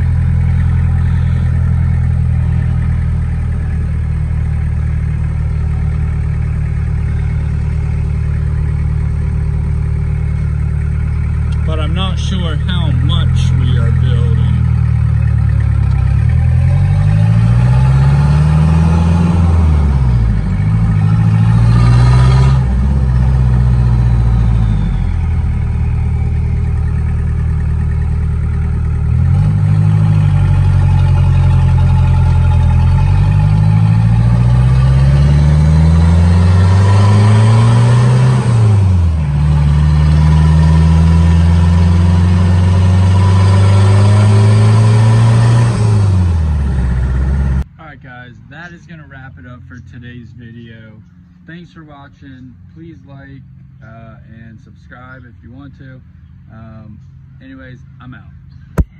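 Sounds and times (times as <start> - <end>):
diesel engine revving: 0.0 - 58.9.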